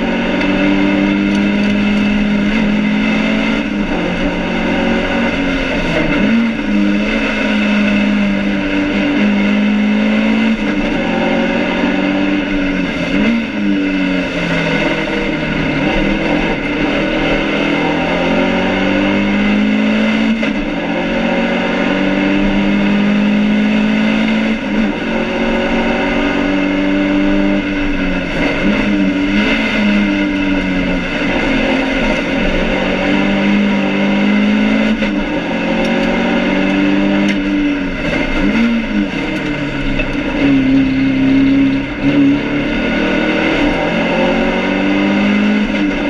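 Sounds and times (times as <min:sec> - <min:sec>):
racing car engine revving: 0:00.0 - 0:46.0.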